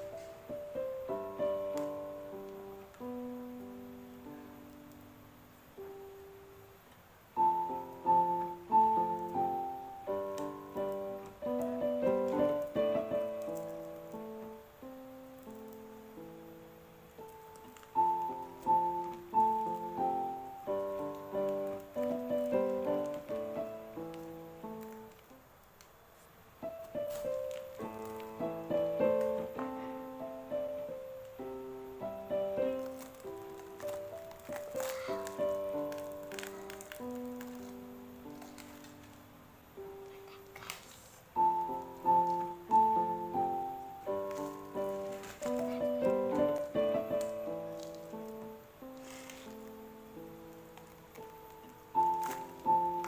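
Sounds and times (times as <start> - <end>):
slow piano music: 0.0 - 53.0.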